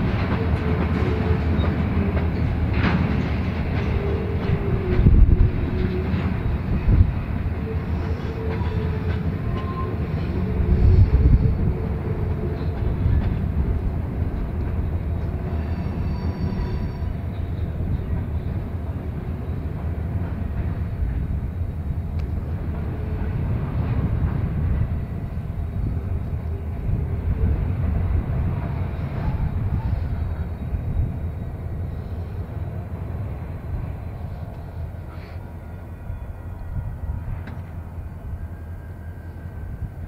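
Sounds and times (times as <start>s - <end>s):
diesel locomotive rumble: 0.0s - 40.0s
freight train rolling past: 0.0s - 40.0s.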